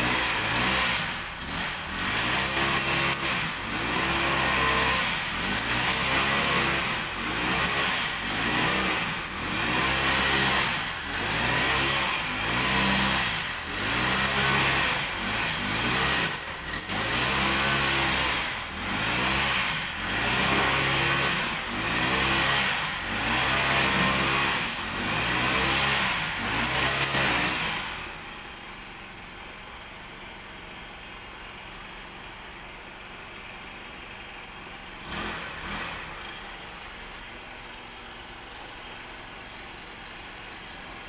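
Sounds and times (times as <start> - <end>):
brush cutter engine cutting grass: 0.0 - 30.4, 34.6 - 39.1.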